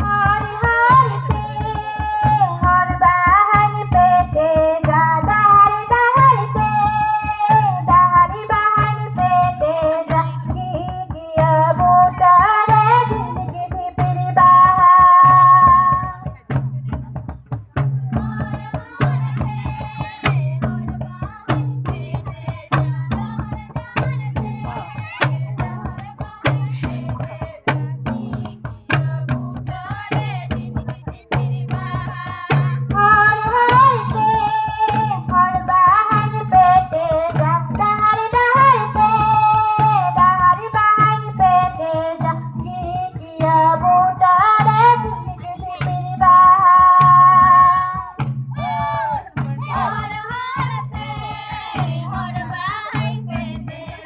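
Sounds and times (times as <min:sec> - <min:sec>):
repeating drum beat: 0:00.0 - 0:54.0.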